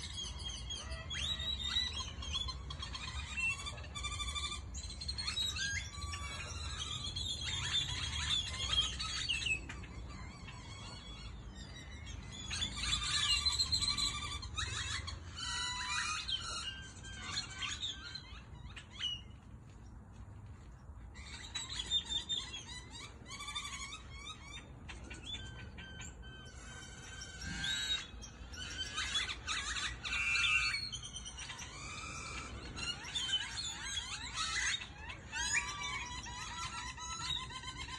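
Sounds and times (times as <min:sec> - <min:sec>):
birds chirping and whistling: 0:00.0 - 0:37.9.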